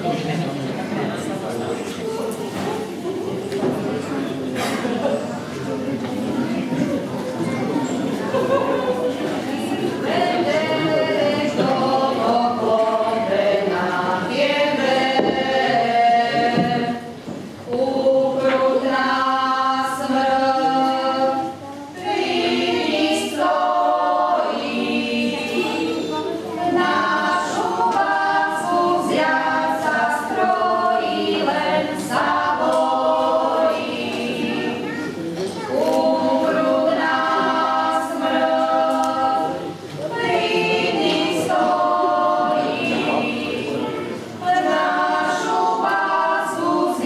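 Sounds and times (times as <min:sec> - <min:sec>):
group singing unaccompanied: 0:08.0 - 0:47.0.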